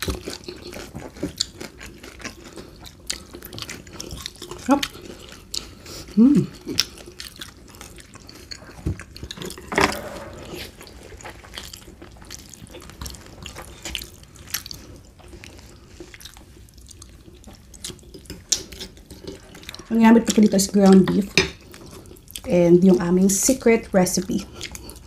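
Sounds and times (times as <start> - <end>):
chewing and slurping spaghetti: 0.0 - 9.7, 10.5 - 22.5, 24.4 - 25.0.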